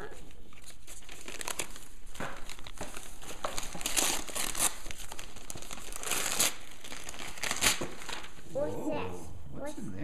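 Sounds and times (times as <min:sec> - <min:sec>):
wrapping paper crinkling and tearing: 0:00.0 - 0:08.5.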